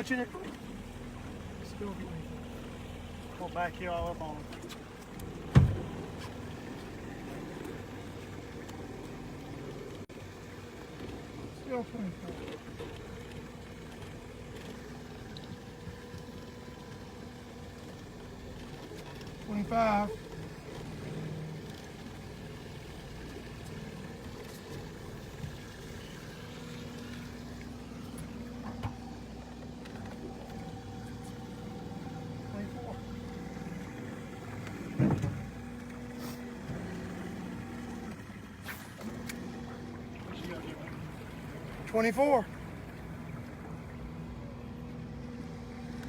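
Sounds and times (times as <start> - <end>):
boat motor humming: 0.0 - 46.0.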